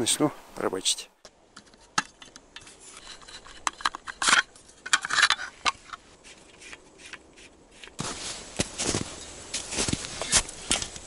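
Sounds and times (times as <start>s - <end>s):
scraping and rustling: 1.6s - 11.0s.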